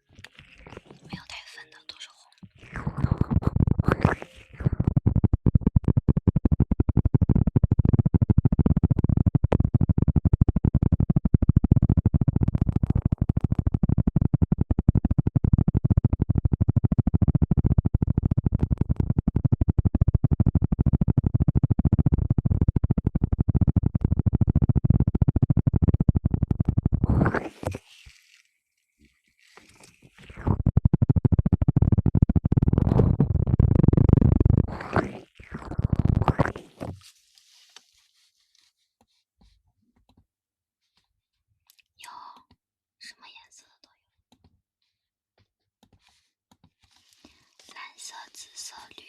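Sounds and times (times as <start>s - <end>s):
scratching against microphone: 0.2s - 39.6s, 45.9s - 49.0s.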